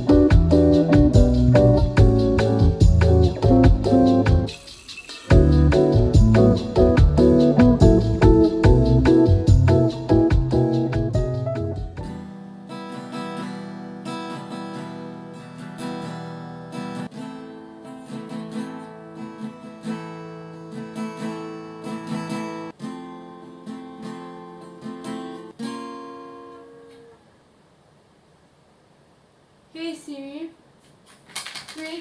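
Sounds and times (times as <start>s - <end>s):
acoustic guitar music: 0.0s - 27.3s.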